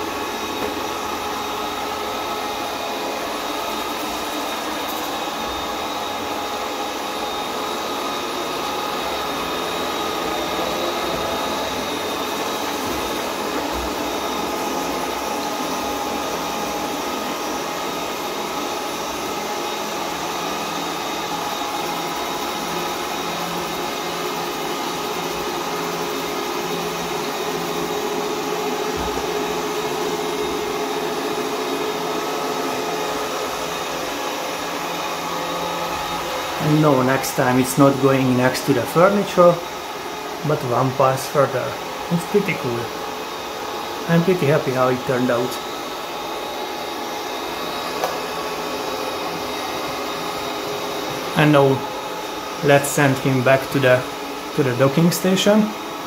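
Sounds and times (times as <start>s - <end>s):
robot vacuum cleaner whirring: 0.0s - 56.0s.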